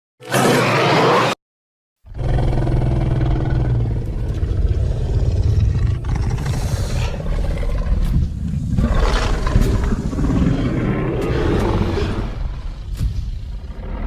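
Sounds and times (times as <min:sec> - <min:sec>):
deep rattling creature growl: 0:02.1 - 0:14.0.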